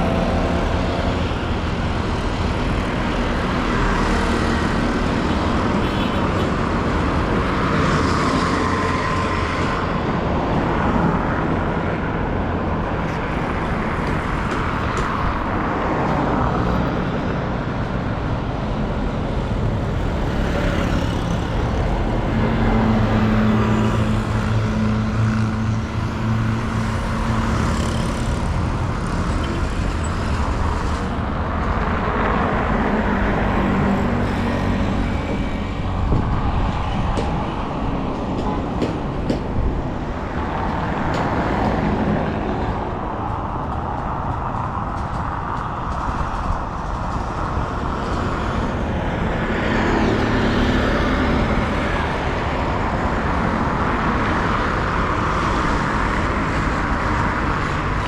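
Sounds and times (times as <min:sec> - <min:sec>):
engines droning nearby: 0:00.0 - 0:58.0
vehicle engines passing: 0:00.0 - 0:58.0.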